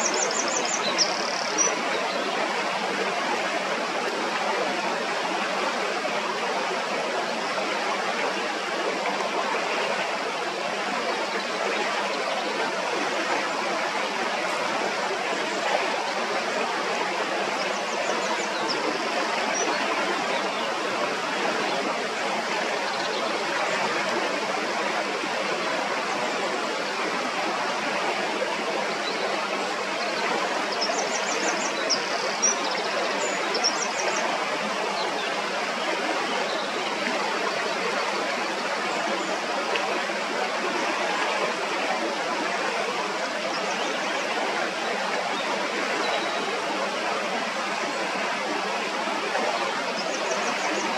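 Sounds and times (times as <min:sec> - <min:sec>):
stream running over stones: 0:00.0 - 0:50.9.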